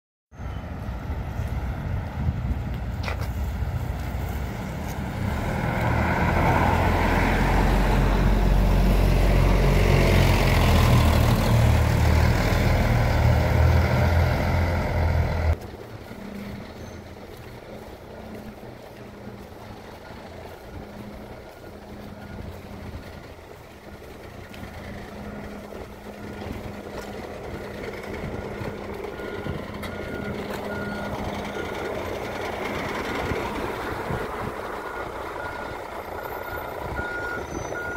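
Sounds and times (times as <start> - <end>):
bus diesel engine pulling away: 0.4 - 37.9
bus engines idling: 0.4 - 37.9
vehicle reversing beeps: 5.2 - 37.9.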